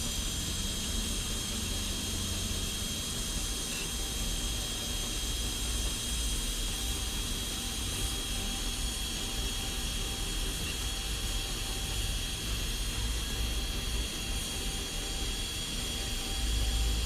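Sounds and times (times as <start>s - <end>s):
blowtorch flame hissing: 0.0s - 17.0s.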